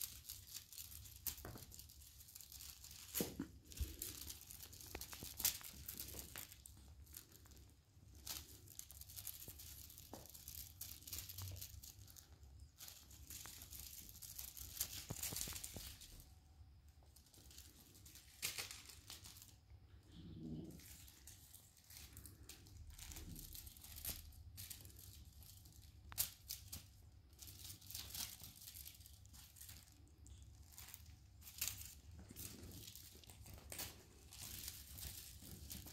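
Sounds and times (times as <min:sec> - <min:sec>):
kittens rustling: 0:00.0 - 0:35.9.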